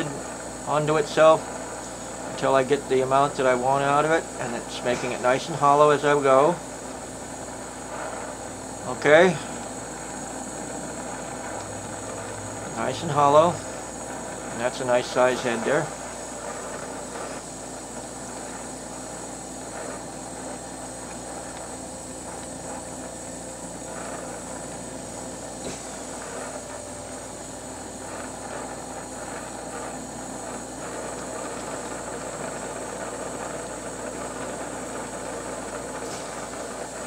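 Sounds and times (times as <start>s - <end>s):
torch flame hissing: 0.0s - 37.0s.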